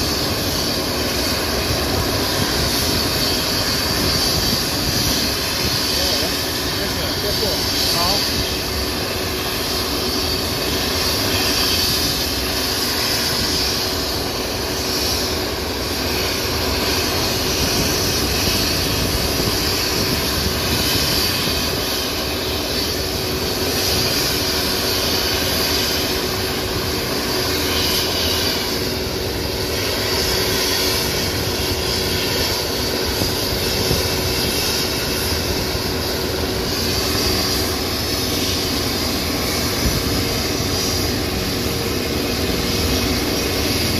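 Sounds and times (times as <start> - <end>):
helicopter rotor noise: 0.0 - 43.9
helicopter turbine whine: 0.0 - 43.9.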